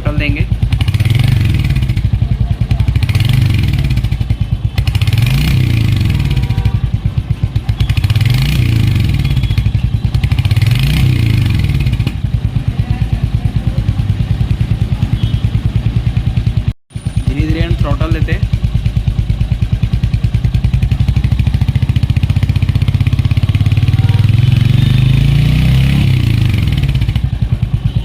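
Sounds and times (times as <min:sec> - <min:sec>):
motorcycle engine revving and idling: 0:00.0 - 0:28.0.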